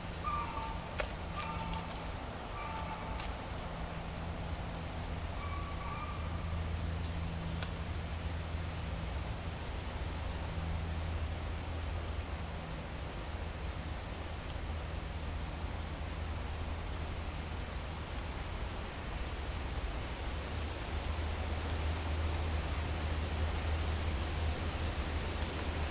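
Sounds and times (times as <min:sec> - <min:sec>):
distant propeller aircraft drone: 0:00.0 - 0:25.9
wind rustling through trees: 0:00.0 - 0:25.9.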